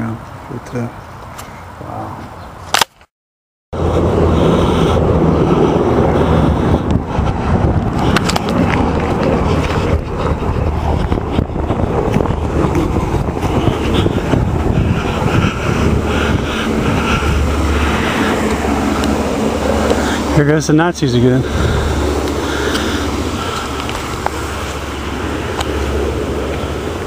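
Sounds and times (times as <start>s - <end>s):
helicopter drone: 3.8s - 27.0s
wind on microphone: 3.8s - 27.0s.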